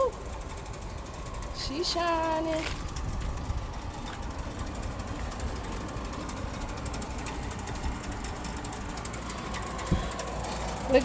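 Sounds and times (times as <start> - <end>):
air conditioner rattling and humming: 0.0 - 11.0.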